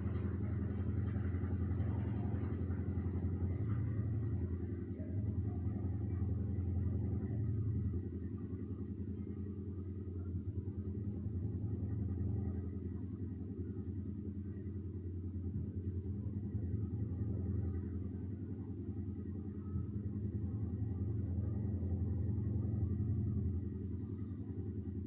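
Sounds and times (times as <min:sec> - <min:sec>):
low rumbling hum: 0:00.0 - 0:25.0.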